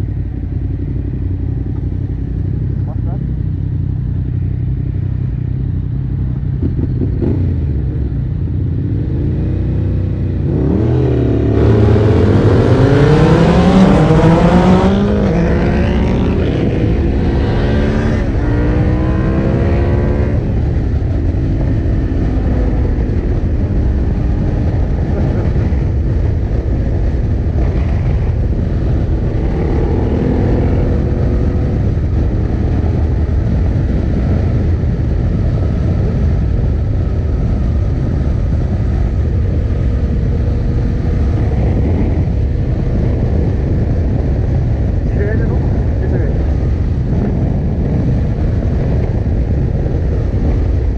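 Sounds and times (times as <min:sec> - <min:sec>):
motorcycle engine accelerating: 0:00.0 - 0:50.9
wind rumble on microphone: 0:00.0 - 0:50.9.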